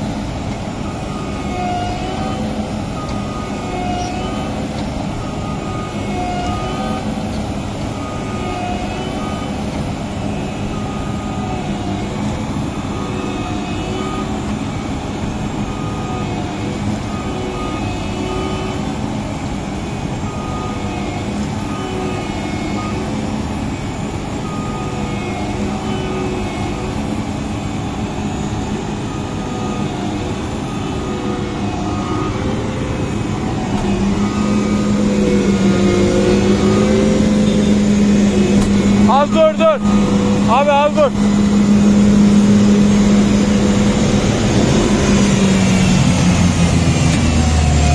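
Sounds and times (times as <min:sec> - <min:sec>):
combine harvester engine running: 0:00.0 - 0:47.9.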